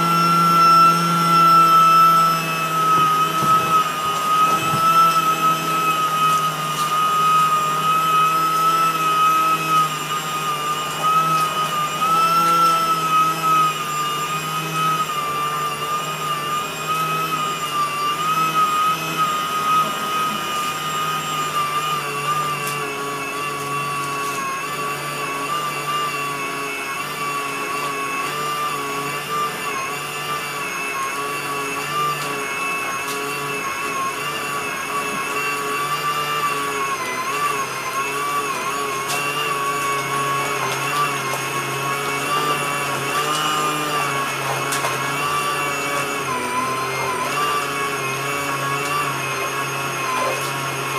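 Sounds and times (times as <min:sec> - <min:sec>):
washing machine motor whining: 0:00.0 - 0:50.9.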